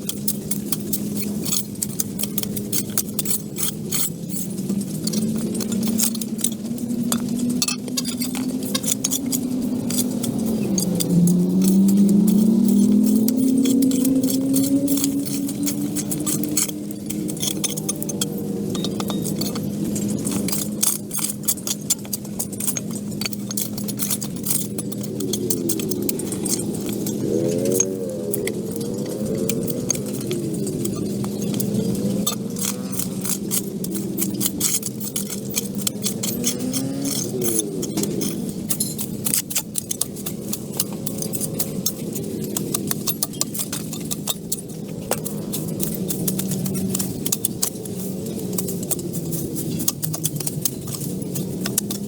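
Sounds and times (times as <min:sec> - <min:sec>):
metallic clicks and clatters: 0:00.0 - 0:52.0
metallic clinks and scrapes: 0:00.0 - 0:52.0
small engine running: 0:00.0 - 0:52.0.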